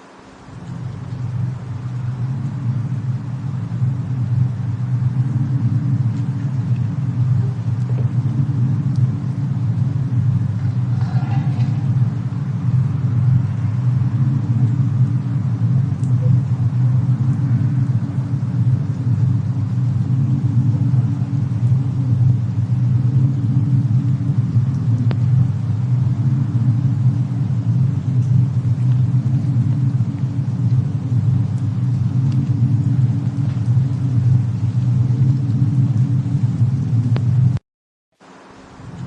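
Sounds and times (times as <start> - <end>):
faint fire crackles: 0.0 - 37.6, 38.2 - 39.0
steady low rumble: 0.0 - 37.6, 38.2 - 39.0.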